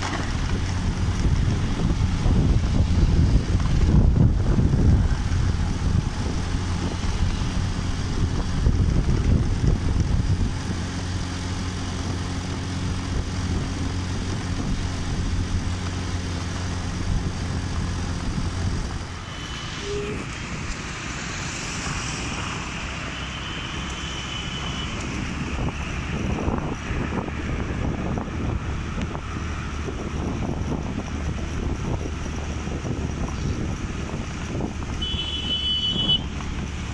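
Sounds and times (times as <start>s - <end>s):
motorcycle engine drone: 0.0s - 36.9s
road noise: 0.0s - 36.9s
wind rushing over microphone: 0.0s - 36.9s.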